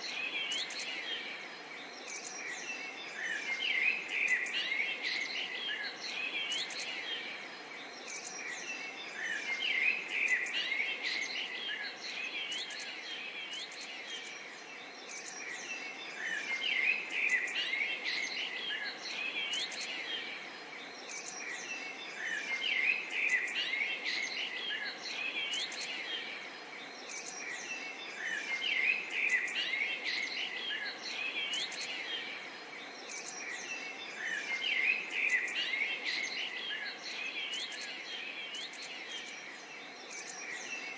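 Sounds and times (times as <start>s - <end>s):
birds chirping and singing: 0.0s - 40.9s
faint steady hiss: 0.0s - 40.9s.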